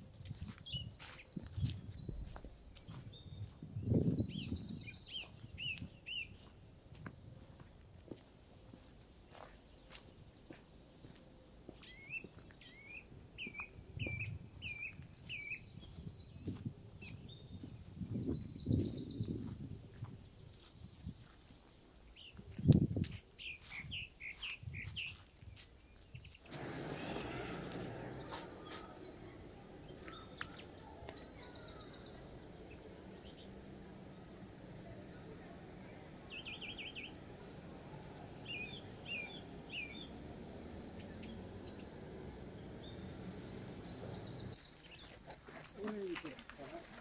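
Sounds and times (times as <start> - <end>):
small songbirds chirping: 0.0 - 46.9.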